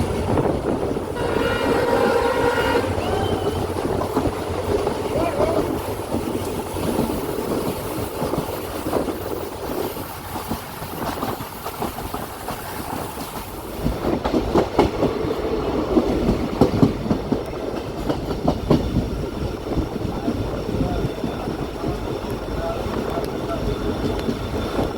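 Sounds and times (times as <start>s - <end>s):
train wheels clicking on rails: 0.0s - 24.9s.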